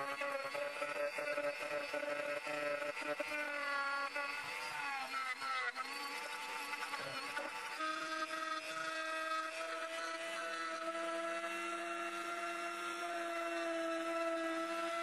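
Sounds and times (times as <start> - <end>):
rotary tool grinding resin: 0.0 - 15.0.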